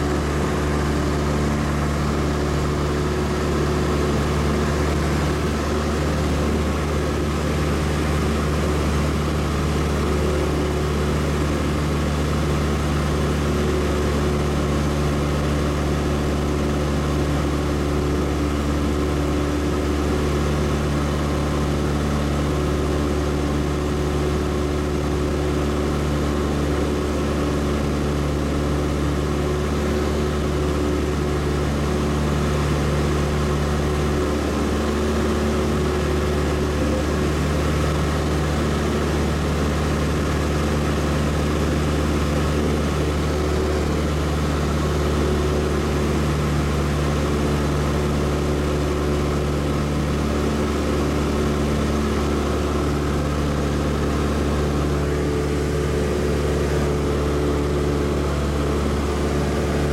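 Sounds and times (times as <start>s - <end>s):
airplane engine and propeller hum: 0.0s - 59.9s.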